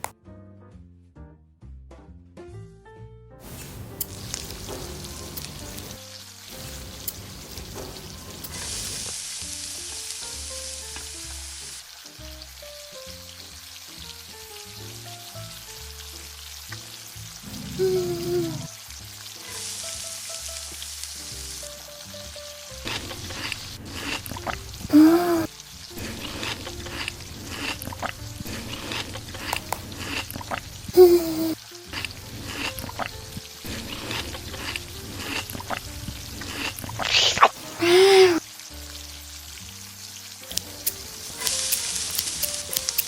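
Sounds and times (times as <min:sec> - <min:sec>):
background music: 0:00.0 - 0:43.0
meat sizzling on a grill: 0:03.4 - 0:43.0.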